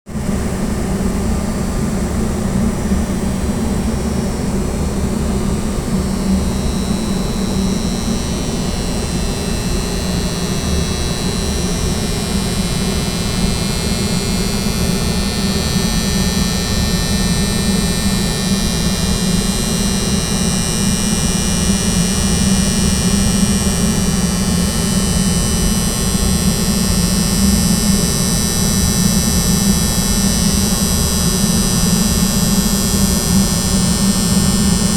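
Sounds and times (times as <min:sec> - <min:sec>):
electrical hum: 0:00.2 - 0:34.9
high-pitched whine: 0:01.2 - 0:34.9.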